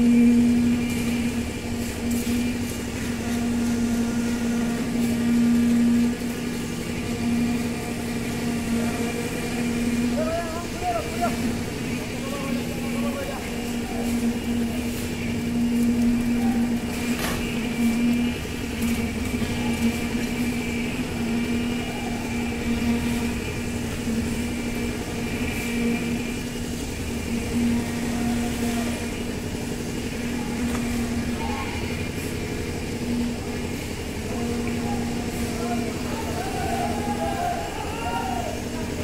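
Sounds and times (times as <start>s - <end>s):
engine droning: 0.0s - 39.0s.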